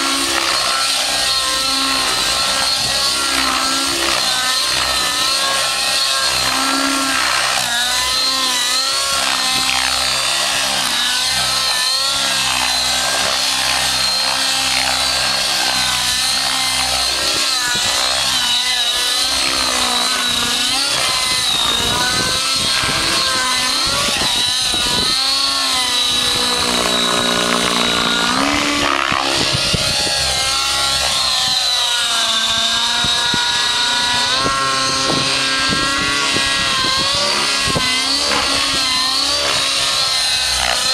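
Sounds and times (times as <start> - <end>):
high-pitched whine: 0.0 - 40.9
model helicopter engine buzzing: 0.0 - 40.9.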